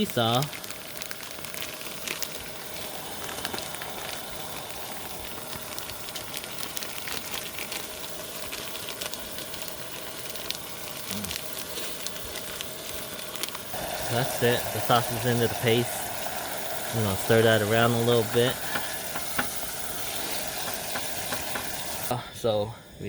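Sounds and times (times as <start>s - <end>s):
meat sizzling in a pot: 0.0s - 22.2s.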